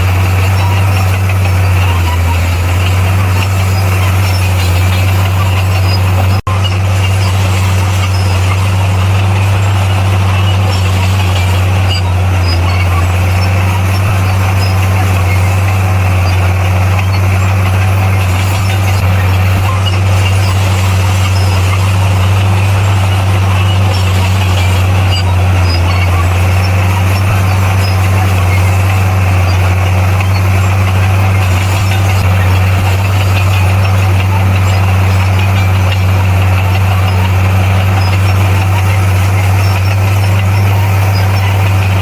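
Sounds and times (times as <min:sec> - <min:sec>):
diesel engine droning: 0:00.0 - 0:42.0.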